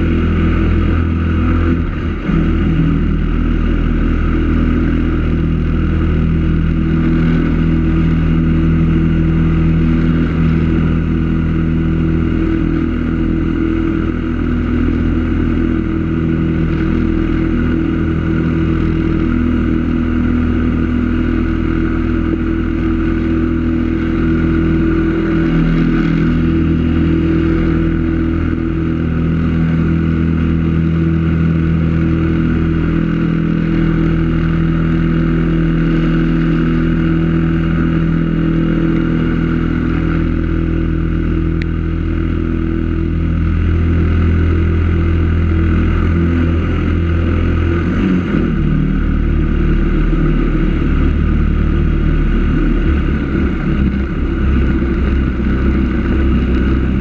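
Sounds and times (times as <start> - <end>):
boat engine running loud: 0.0 - 57.0.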